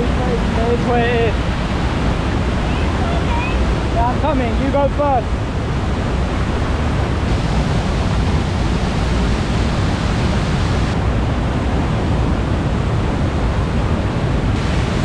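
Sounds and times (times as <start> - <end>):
river and waterfall rushing: 0.0 - 15.0.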